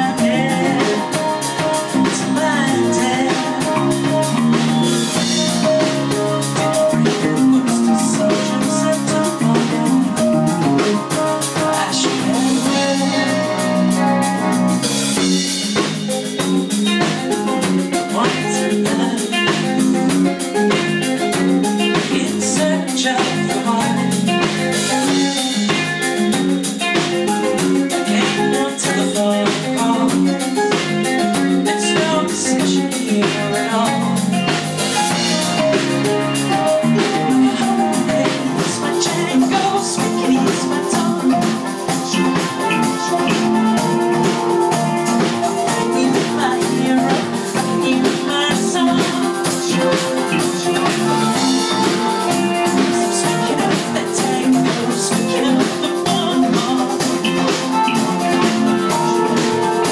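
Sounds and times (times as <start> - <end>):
drum kit steady beat: 0.0 - 59.9
electric bass: 0.0 - 59.9
electric guitar: 0.0 - 59.9
keyboards: 0.0 - 59.9.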